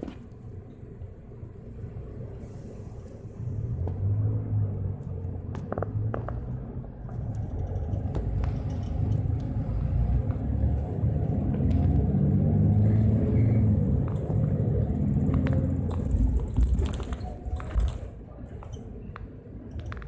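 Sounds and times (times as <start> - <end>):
bus engine running: 0.0 - 19.7.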